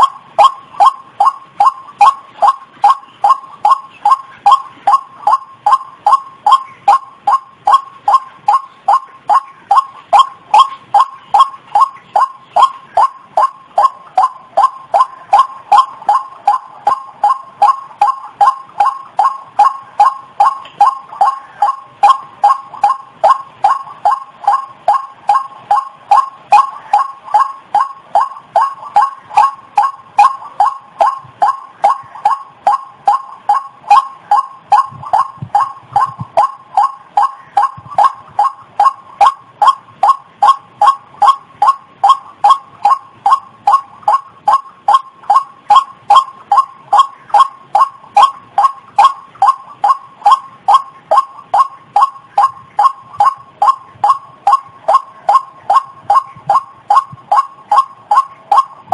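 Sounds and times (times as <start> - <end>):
bird call repeated short notes: 0.0 - 58.9.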